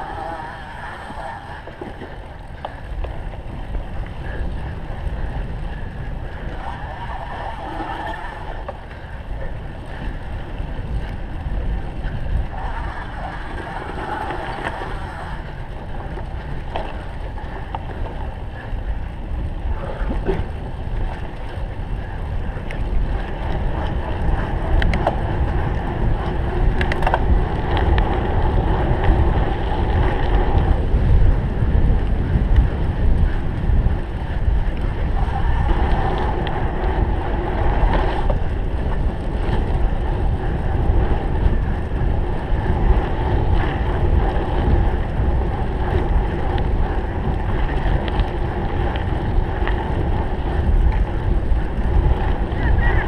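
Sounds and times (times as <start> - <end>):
bike clicks and rattles: 0.0 - 53.0
wind buffeting microphone: 0.0 - 53.0.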